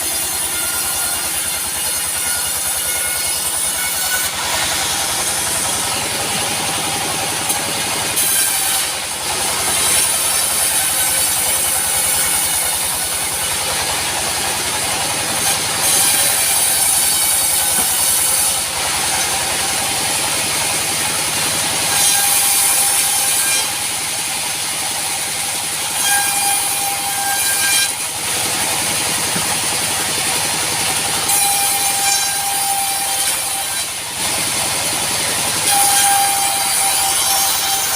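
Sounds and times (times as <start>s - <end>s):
band sawmill cutting log: 0.0s - 37.9s.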